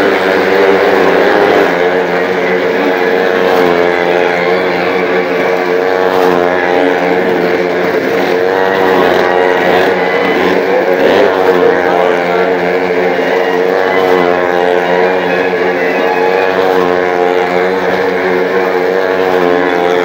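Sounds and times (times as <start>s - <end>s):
vehicle engines revving: 0.0s - 20.0s.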